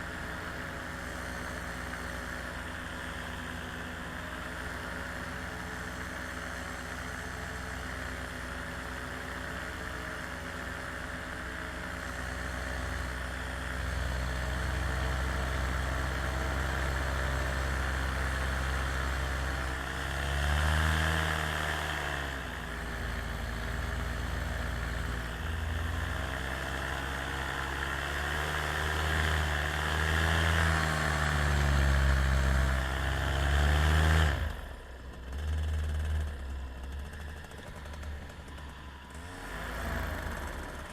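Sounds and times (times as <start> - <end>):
small aircraft engine in flight: 0.0 - 40.9.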